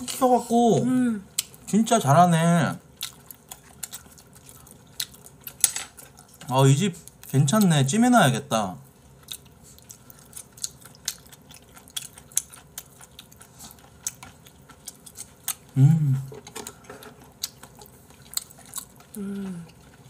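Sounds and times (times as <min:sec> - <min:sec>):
chewing: 0:01.3 - 0:01.7, 0:02.8 - 0:07.8, 0:08.8 - 0:20.0.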